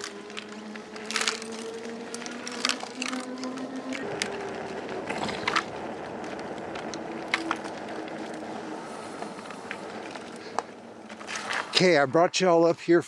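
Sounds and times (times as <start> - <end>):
electric motor whine: 0.0 - 11.8
bike tires on rough asphalt: 0.0 - 13.0.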